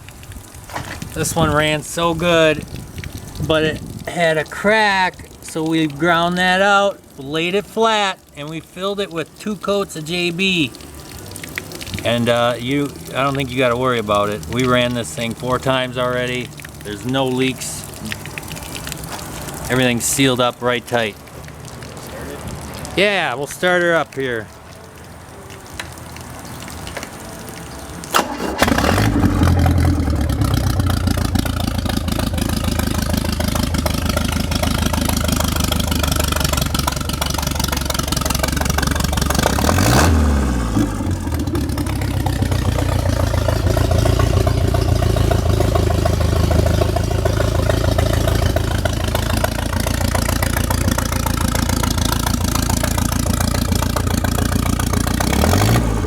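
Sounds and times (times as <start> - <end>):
boat engine starting and running: 0.0 - 23.6, 27.4 - 56.0.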